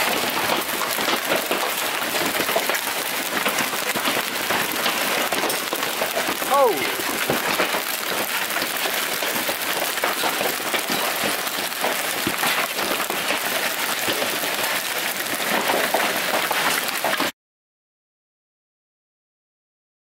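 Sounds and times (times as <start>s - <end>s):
hail pelting water and concrete: 0.0s - 17.3s.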